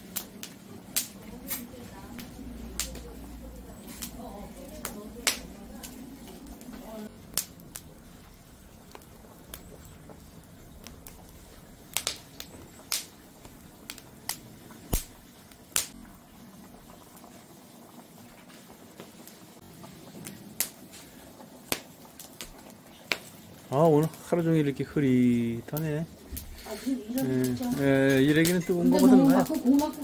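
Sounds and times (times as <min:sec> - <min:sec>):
fire low hiss: 0:00.0 - 0:30.0
firewood crackling and popping: 0:00.0 - 0:30.0.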